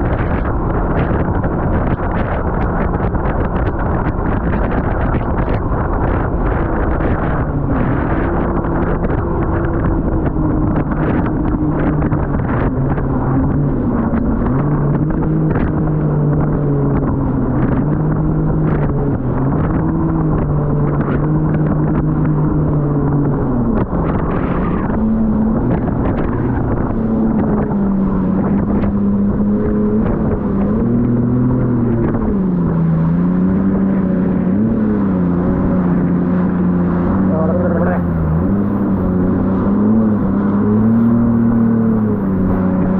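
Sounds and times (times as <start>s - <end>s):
jet ski engine running: 0.0s - 42.9s.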